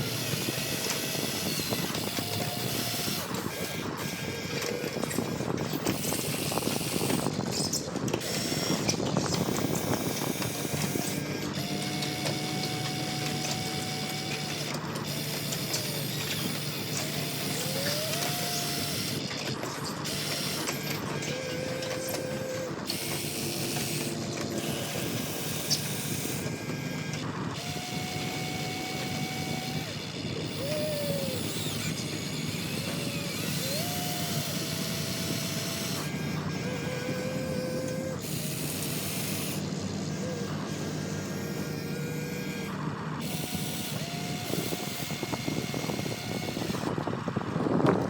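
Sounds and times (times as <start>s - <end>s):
model excavator motors whirring: 0.0s - 48.0s.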